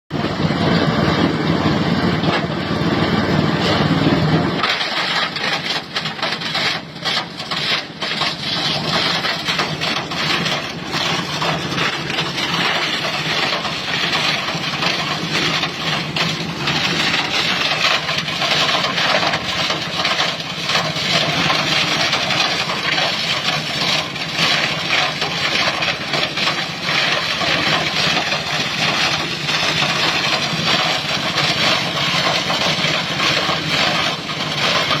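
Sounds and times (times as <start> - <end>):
plastic shredder grinding: 0.1 - 35.0.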